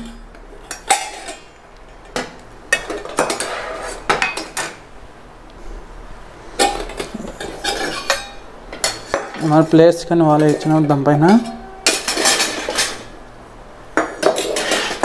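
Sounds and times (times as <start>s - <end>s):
metal containers clinking: 0.0s - 4.8s, 6.5s - 13.2s, 14.0s - 15.0s.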